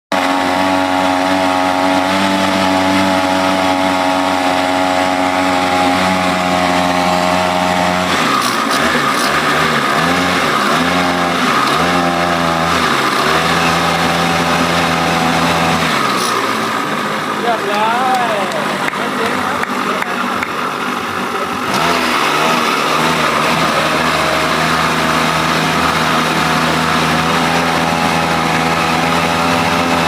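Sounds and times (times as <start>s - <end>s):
small boat engine revving: 0.1s - 30.0s.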